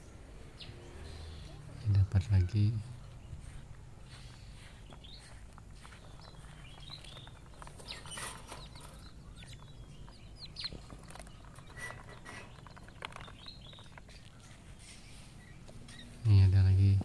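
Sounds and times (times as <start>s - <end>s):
quail chicks peeping: 0.0s - 17.0s.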